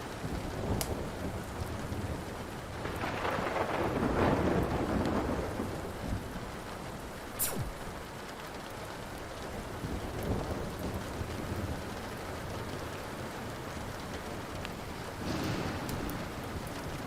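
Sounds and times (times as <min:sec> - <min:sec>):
thunder rumbling: 0:00.0 - 0:08.2, 0:09.4 - 0:17.0
steady rain: 0:00.0 - 0:17.0
wood fire crackling: 0:00.0 - 0:17.0.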